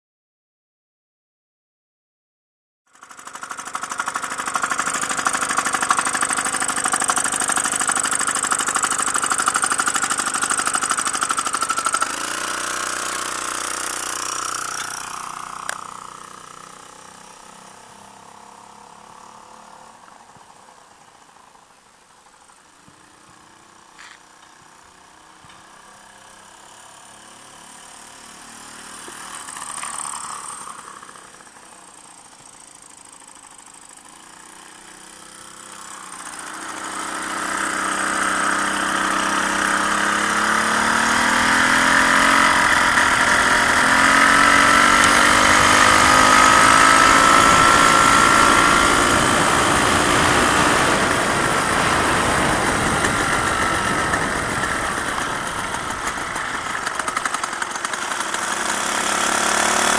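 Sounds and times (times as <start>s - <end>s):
moped two-stroke engine: 2.9s - 59.9s.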